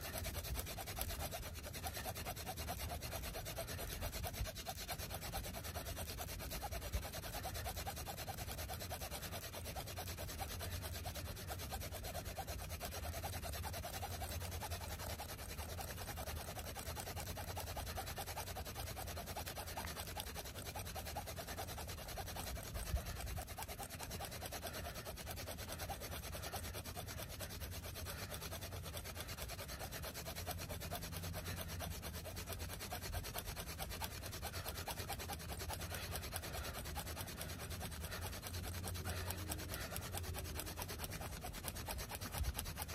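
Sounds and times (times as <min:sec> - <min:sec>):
hand drill spindle grinding on wood: 0:00.0 - 0:42.9.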